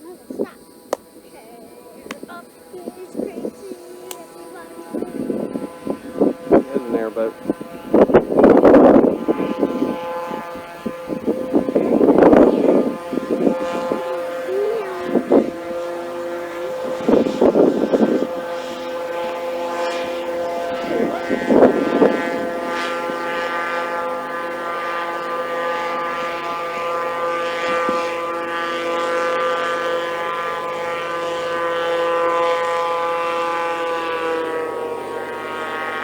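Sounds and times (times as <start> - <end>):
airboat engine droning: 0.0 - 36.0.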